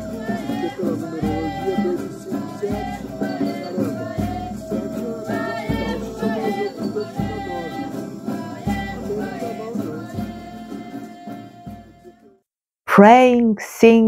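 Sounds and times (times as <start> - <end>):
faint shaker rattle: 0.0 - 11.9
group singing: 0.0 - 12.3
instrumental music: 0.0 - 12.4.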